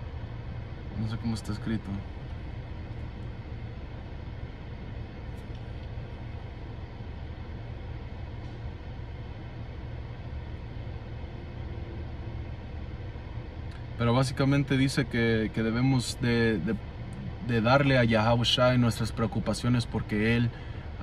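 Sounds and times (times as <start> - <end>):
low rumble inside car: 0.0 - 21.0.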